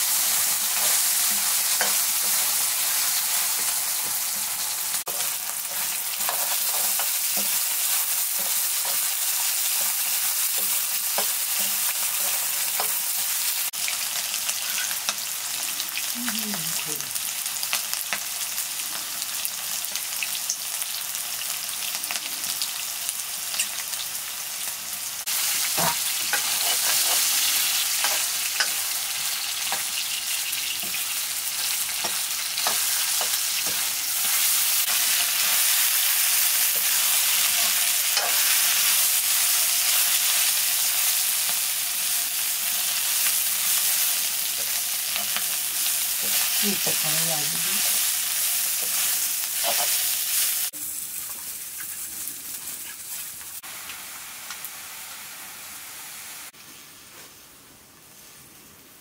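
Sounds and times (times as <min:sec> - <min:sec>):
potatoes sizzling in oil: 0:00.0 - 0:57.1.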